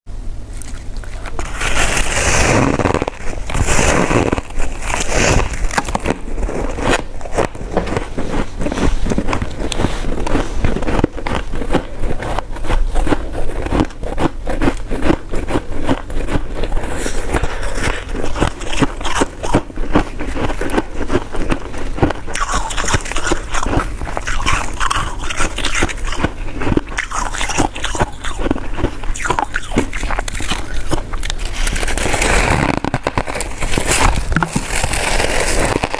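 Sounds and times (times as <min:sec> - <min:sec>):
biting and chewing: 0:00.5 - 0:35.9.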